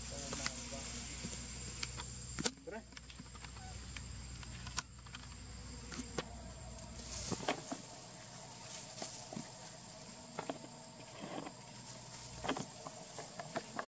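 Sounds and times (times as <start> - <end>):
faint hiss: 0.0 - 13.9
small ticks and rustles: 0.0 - 13.9.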